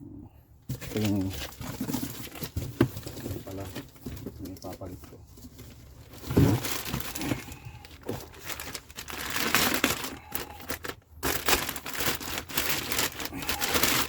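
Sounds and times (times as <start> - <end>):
packaging rustling and crinkling: 0.7 - 14.0.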